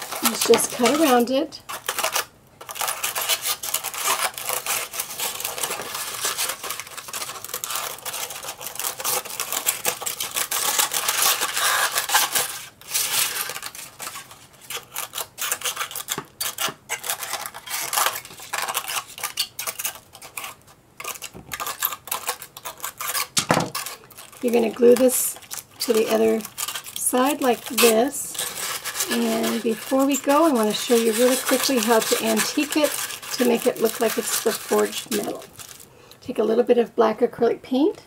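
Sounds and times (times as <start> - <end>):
scissors cutting foil: 0.0 - 35.8
foil crinkling: 0.0 - 36.2.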